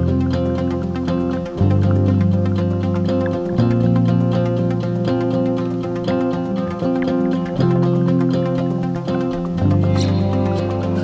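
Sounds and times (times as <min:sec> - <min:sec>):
background music with steady beat: 0:00.0 - 0:11.0
plucked guitar: 0:00.0 - 0:11.0.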